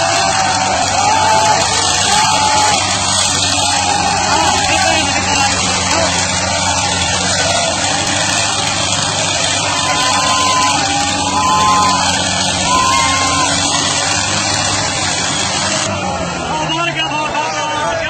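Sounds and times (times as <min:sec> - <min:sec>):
crowd shouting: 0:00.0 - 0:16.7
tractor engines under load: 0:00.0 - 0:18.0.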